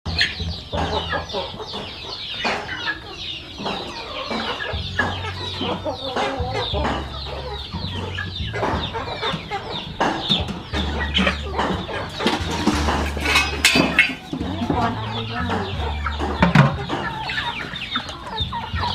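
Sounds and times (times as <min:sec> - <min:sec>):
chickens clucking: 0:00.1 - 0:18.9.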